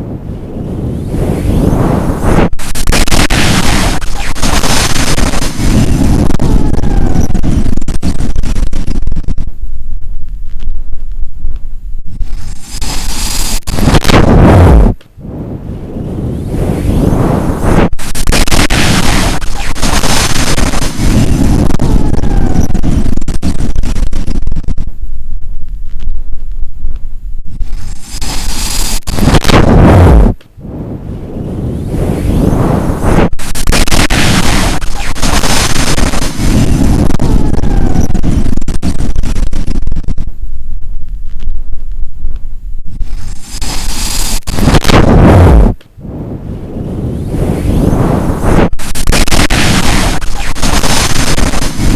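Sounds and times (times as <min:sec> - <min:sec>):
strong wind gusting on microphone: 0:00.0 - 0:51.9.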